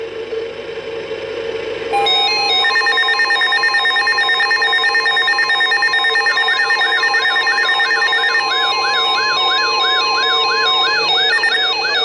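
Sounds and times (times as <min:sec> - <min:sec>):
electronic alarm tones: 0:02.0 - 0:12.0
rising and falling siren sweep: 0:02.1 - 0:12.0.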